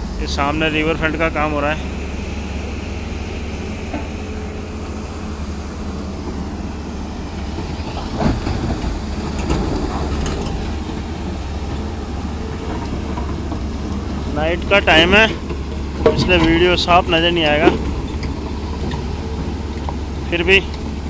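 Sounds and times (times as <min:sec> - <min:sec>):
excavator diesel engines rumbling: 0:00.0 - 0:21.0.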